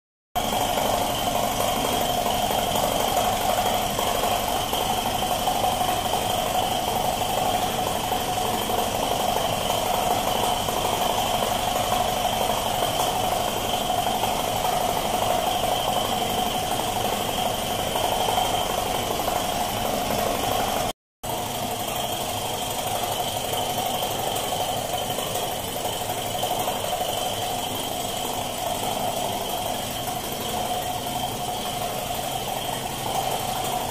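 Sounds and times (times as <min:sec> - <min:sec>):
air compressor running: 0:00.4 - 0:33.9.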